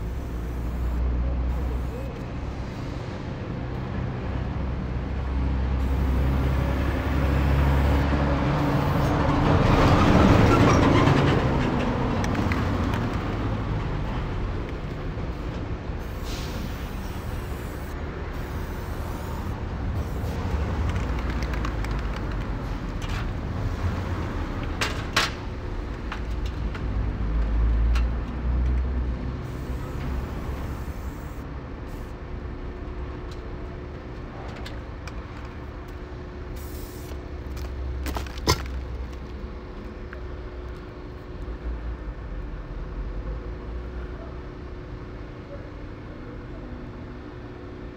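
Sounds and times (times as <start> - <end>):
passing vehicles rumbling: 0.0 - 45.1.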